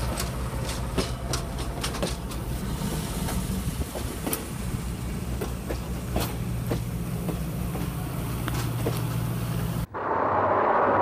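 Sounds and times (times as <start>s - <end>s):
model train wheels clicking: 0.0s - 9.3s.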